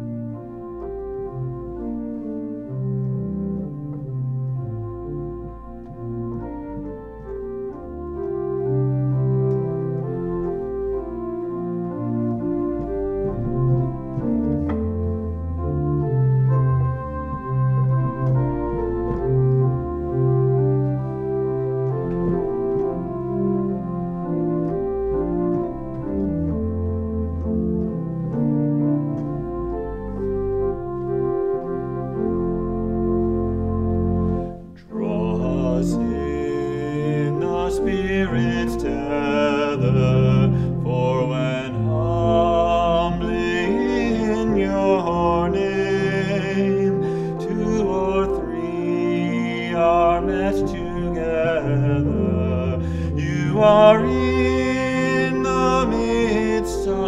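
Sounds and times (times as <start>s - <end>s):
organ playing slow chords: 0.0s - 57.0s.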